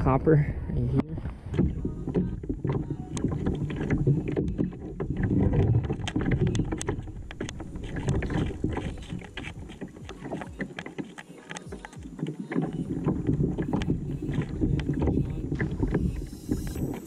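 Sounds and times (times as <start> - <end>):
wind on microphone: 0.0 - 10.7, 12.6 - 17.0.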